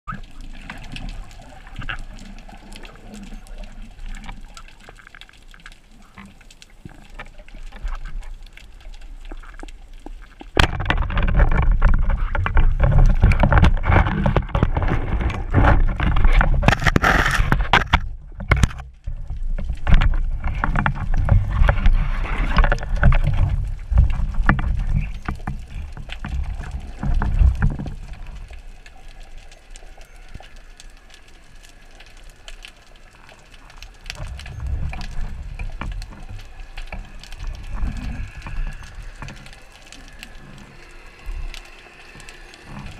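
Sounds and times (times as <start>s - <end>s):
underwater crackling and clicks: 0.1s - 42.9s
water rushing and bubbling: 0.1s - 42.9s.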